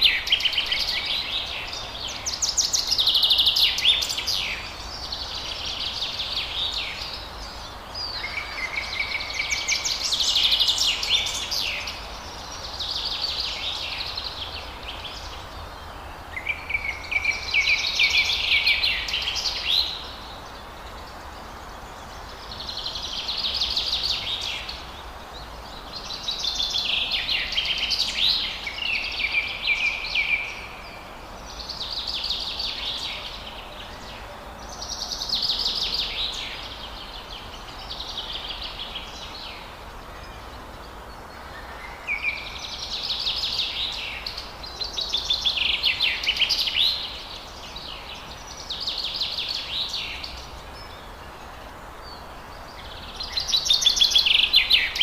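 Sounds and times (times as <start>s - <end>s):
birds chirping and trilling: 0.0s - 55.0s
steady background hiss: 0.0s - 55.0s.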